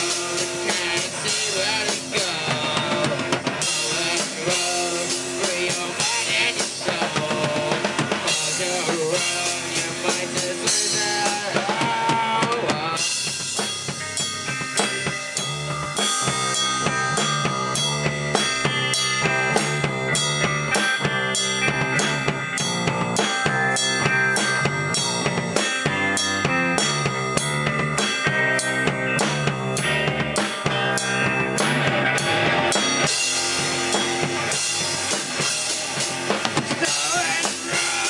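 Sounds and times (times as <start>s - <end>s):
drum kit: 0.0s - 38.0s
electric guitar: 0.0s - 38.0s.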